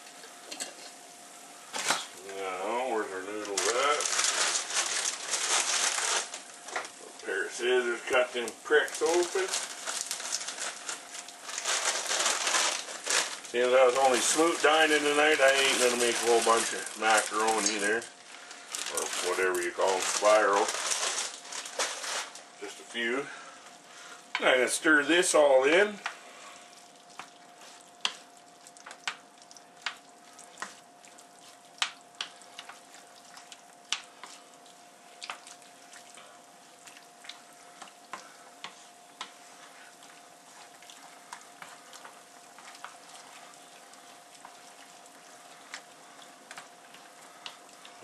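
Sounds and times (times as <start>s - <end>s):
faint steady hiss: 0.0s - 48.0s.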